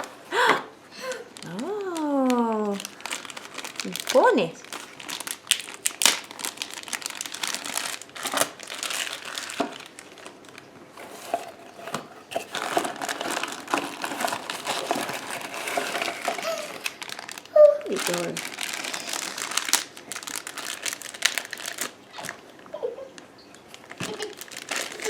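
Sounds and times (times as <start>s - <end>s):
plastic packaging crinkling: 1.0s - 22.6s, 23.6s - 25.0s.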